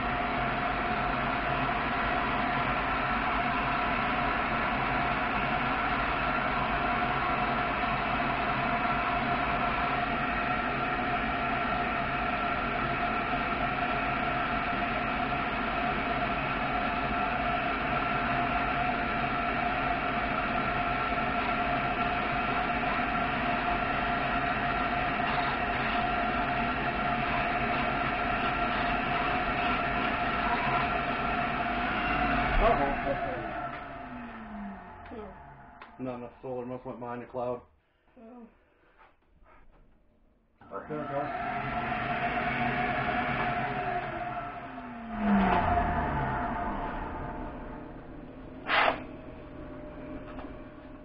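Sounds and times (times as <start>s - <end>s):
cordless drill boring: 0.0s - 36.0s, 40.6s - 51.0s
shop vacuum whining: 0.0s - 37.2s, 40.6s - 51.0s.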